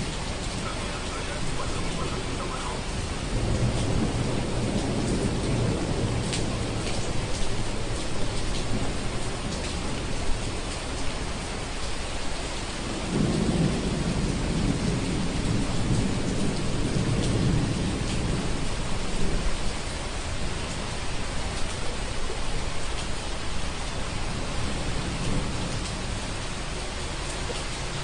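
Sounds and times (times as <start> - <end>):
steady rain: 0.0 - 28.0
thunder rumbling: 0.0 - 28.0.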